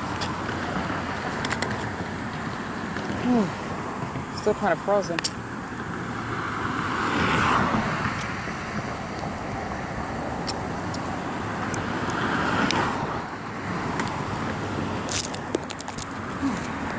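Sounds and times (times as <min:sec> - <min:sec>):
cars passing on road: 0:00.0 - 0:16.9.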